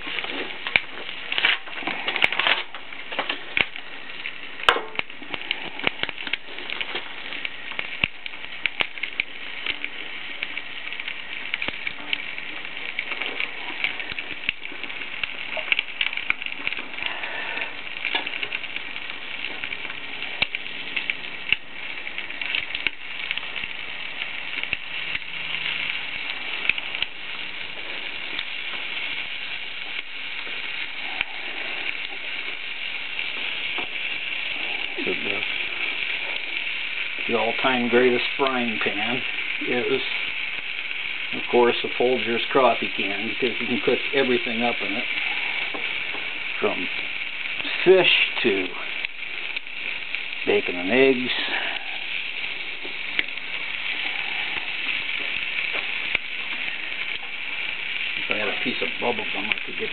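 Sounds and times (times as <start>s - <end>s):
fire popping: 0.0s - 59.9s
stick fire crackling in metal stove: 0.0s - 59.9s.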